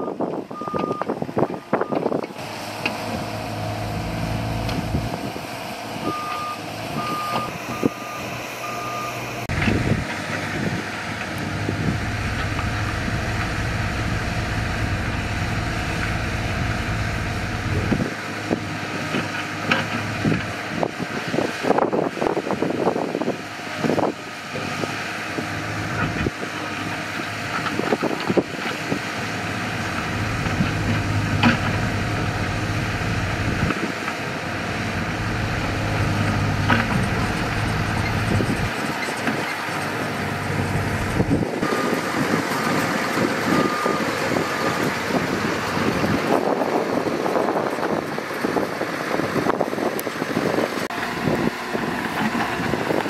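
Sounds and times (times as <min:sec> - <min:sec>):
diesel machinery engines running: 0:00.0 - 0:53.0.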